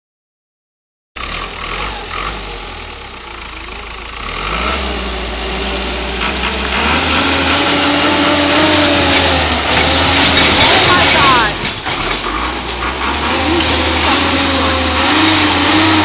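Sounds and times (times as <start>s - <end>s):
diesel engine running: 1.2s - 16.0s.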